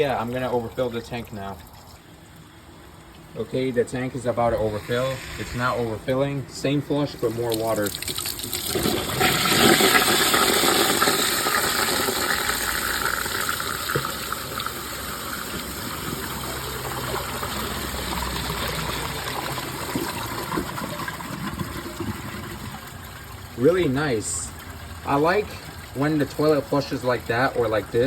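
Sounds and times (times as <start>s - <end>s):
toilet flushing: 3.4s - 28.0s.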